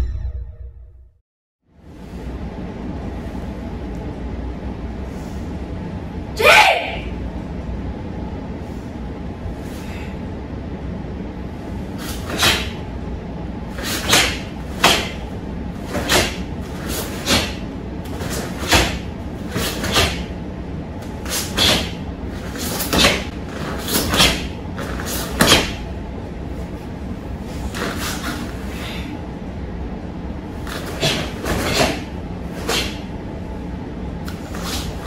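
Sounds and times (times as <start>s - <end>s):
room hum: 0.0s - 35.0s.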